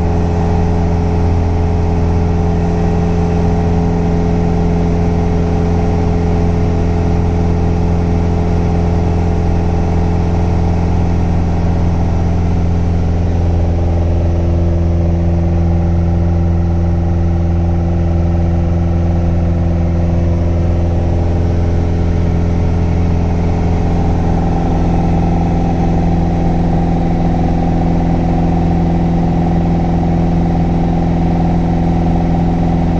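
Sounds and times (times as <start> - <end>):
light aircraft engine droning: 0.0 - 32.9.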